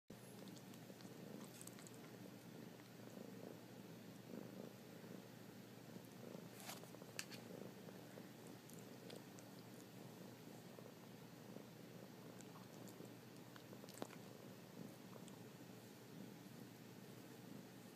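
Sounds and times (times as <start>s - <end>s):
kitten purring: 0.1s - 17.9s.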